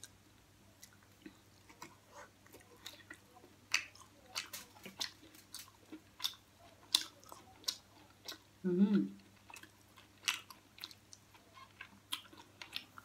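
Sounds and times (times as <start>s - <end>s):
close-miked chewing: 0.0s - 13.0s.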